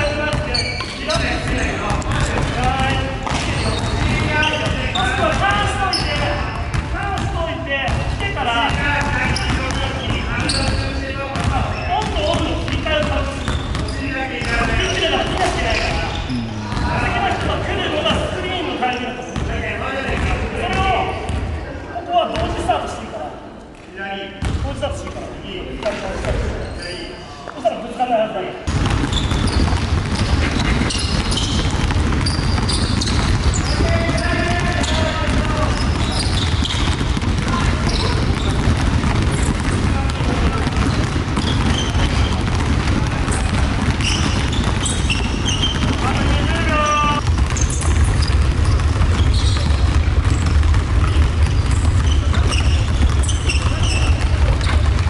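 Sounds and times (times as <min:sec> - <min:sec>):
sneakers squeaking on court: 0:00.0 - 0:07.3, 0:07.9 - 0:21.7, 0:25.8 - 0:27.4, 0:28.7 - 0:55.0
basketballs dribbling: 0:00.0 - 0:23.0, 0:28.6 - 0:55.0.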